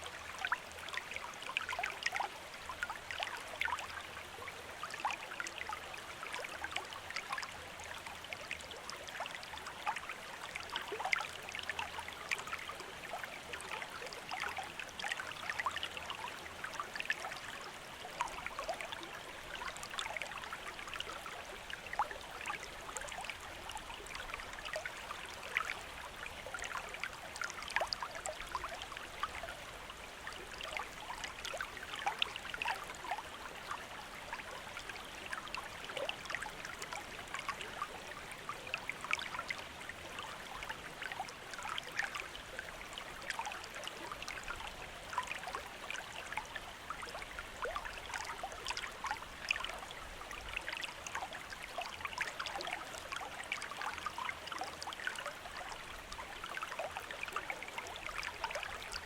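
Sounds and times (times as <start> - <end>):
stream water over rocks: 0.0 - 59.0.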